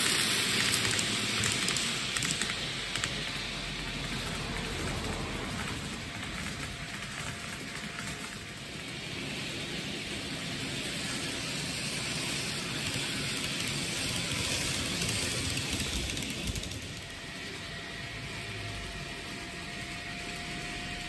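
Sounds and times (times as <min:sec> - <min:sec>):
model train wheels rolling: 0:00.0 - 0:21.0.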